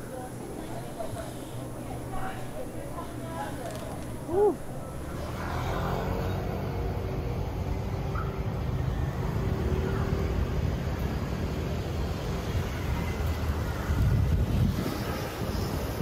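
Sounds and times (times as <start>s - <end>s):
faint engine hum: 0.0s - 16.0s
rumble of passing vehicles: 0.0s - 16.0s.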